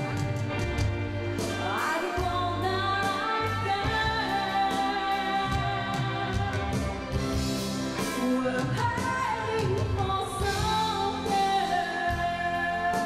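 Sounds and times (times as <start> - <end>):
drums and cymbals: 0.0 - 13.0
electric guitar: 0.0 - 13.0
woman singing into a microphone: 1.5 - 7.2, 8.0 - 13.0.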